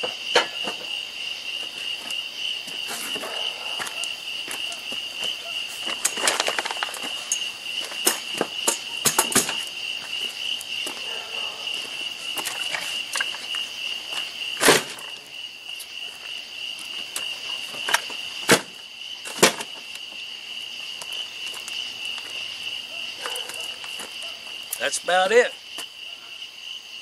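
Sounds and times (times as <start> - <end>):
night insects chirping: 0.0 - 27.0.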